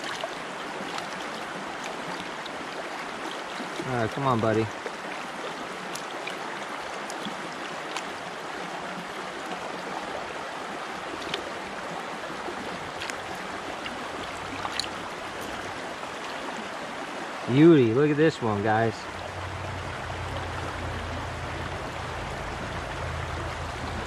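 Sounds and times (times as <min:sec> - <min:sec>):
brook running over rocks: 0:00.0 - 0:24.0.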